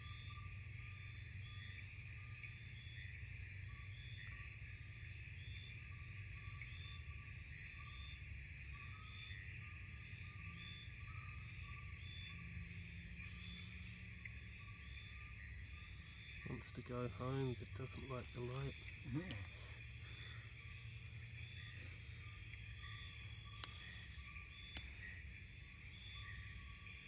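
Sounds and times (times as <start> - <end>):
insects trilling: 0.0 - 27.0
low insect chirps: 0.0 - 27.0.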